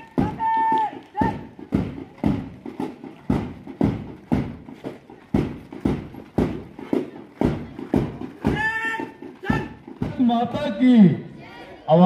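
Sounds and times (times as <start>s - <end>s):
marching drum beat: 0.0s - 11.4s.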